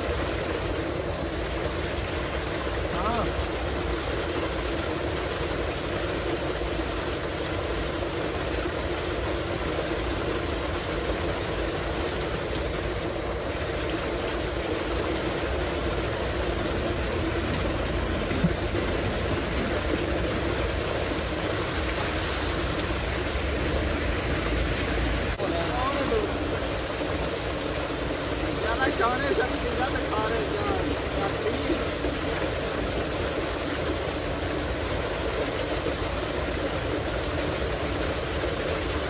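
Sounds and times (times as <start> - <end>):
pump droning: 0.0 - 39.0
water gushing into a concrete tank: 0.0 - 39.0.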